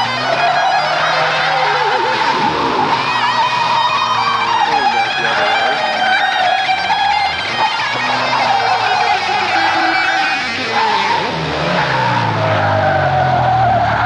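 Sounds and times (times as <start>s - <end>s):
car engine revving: 0.0s - 14.0s
car tyres squealing: 0.0s - 14.0s.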